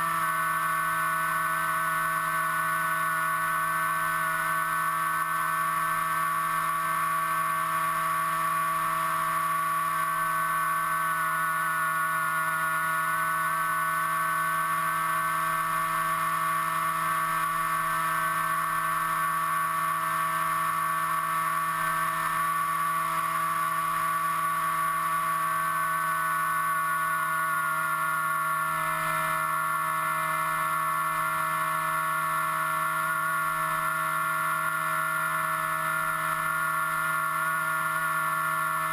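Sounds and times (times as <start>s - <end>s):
electric motor and propeller whine: 0.0s - 38.9s.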